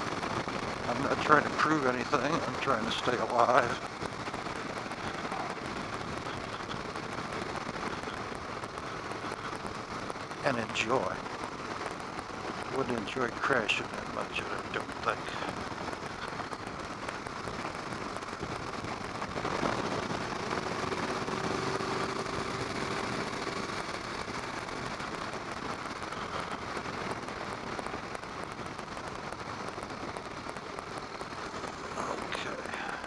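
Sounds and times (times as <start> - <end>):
motorcycle running: 0.0 - 32.9.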